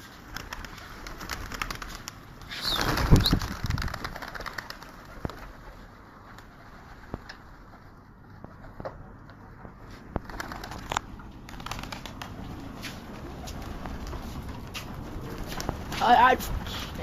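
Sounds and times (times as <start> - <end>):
pigeon wings flapping: 0.0 - 17.0
pigeons clicking and scuffling: 0.0 - 17.0.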